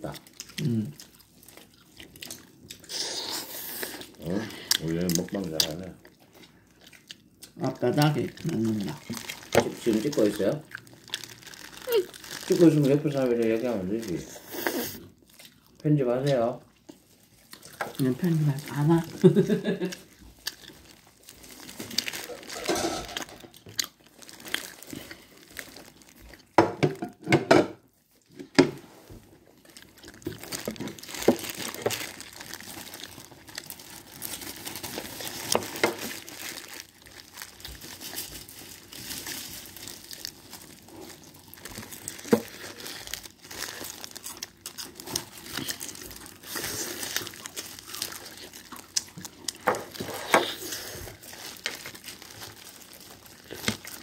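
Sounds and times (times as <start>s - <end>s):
crunching bites and chewing: 0.0s - 14.2s, 15.1s - 18.1s, 19.9s - 26.6s, 29.5s - 54.0s
plastic glove crinkling: 7.6s - 26.6s, 27.9s - 54.0s.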